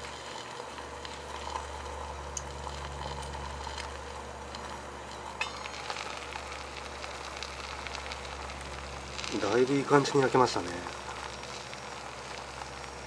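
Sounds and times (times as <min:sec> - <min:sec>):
bacon and egg sizzling: 0:00.0 - 0:13.0
gas burner rumble: 0:00.0 - 0:13.0.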